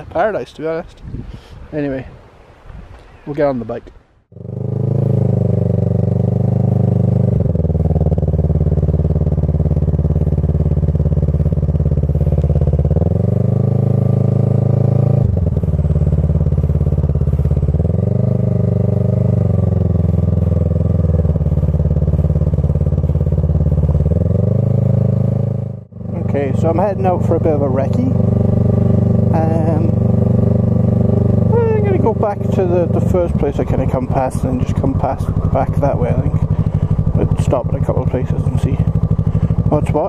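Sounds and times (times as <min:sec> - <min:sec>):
motorcycle engine revving: 0:04.3 - 0:40.0.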